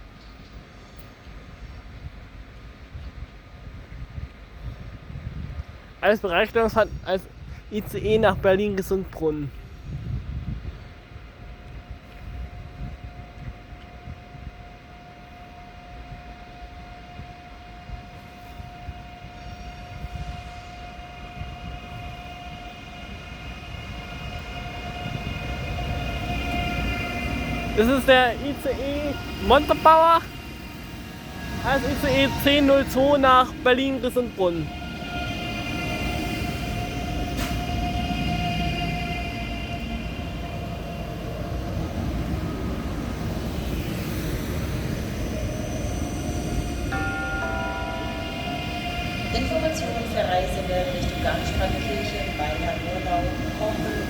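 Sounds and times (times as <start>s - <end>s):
train low rumble: 0.0s - 54.0s
train electric whine: 9.6s - 54.0s.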